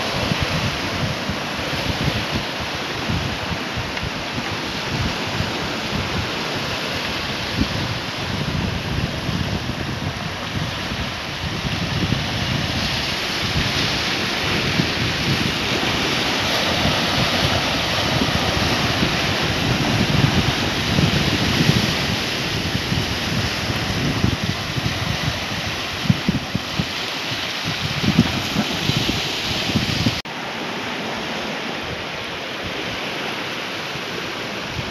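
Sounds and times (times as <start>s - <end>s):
wind buffeting the microphone: 0.0s - 30.3s
surf washing around rocks: 0.0s - 34.9s.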